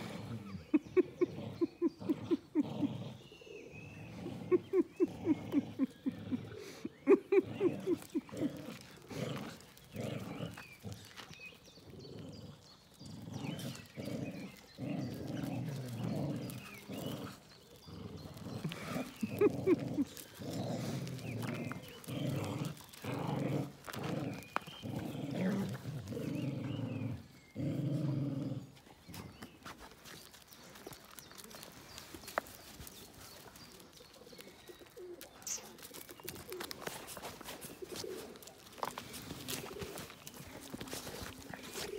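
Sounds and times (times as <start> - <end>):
dogs growling in play: 0.0 - 41.9.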